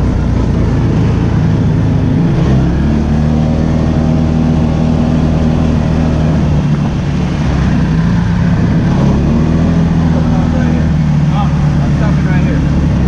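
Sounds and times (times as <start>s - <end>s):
atv engine running: 0.0s - 13.0s
ride rumble: 0.0s - 13.0s.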